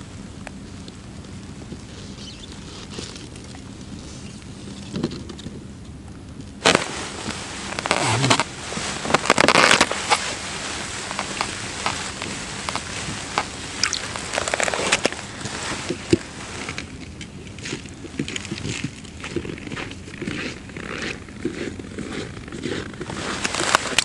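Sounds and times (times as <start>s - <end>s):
rustling and crunching handling noise: 0.0s - 24.0s.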